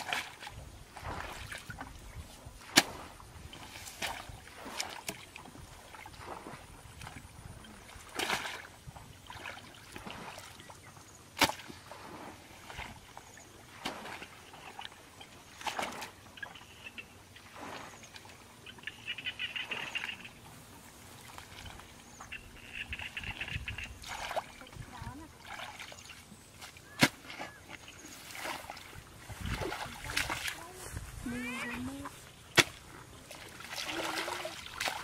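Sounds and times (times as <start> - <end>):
muddy water sloshing and splashing: 0.0 - 35.0.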